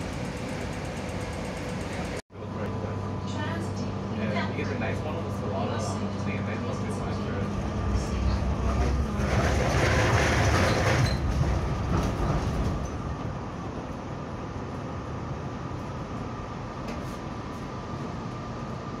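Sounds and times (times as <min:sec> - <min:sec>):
tram wheel and rail rumble: 0:00.0 - 0:19.0.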